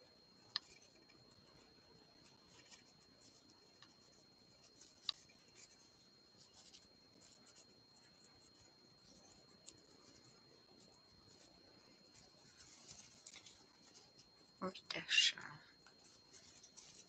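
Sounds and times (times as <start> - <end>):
crochet hook rustling yarn: 0.0 - 17.0
faint high-pitched whine: 0.0 - 17.0.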